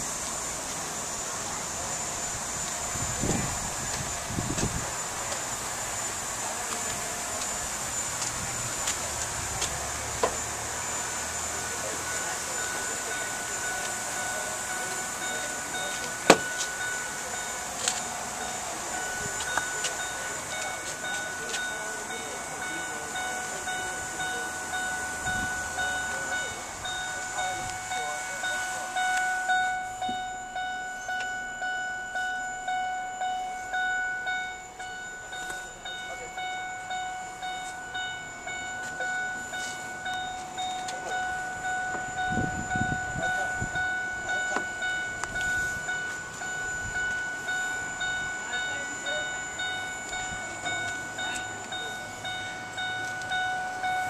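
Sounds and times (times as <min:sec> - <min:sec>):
car warning chime dinging: 0:00.0 - 0:54.0.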